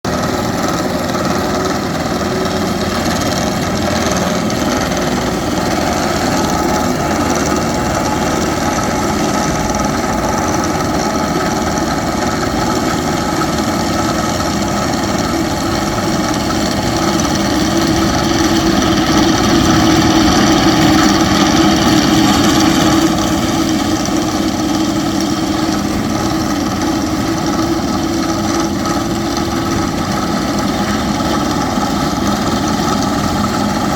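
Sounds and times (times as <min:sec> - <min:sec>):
heavy construction machinery running: 0:00.0 - 0:33.9.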